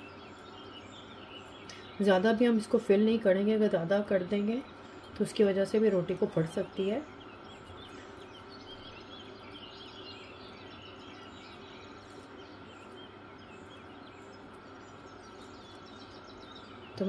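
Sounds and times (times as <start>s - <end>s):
faint bird chirps: 0.0s - 17.0s
steady background hum: 0.0s - 17.0s.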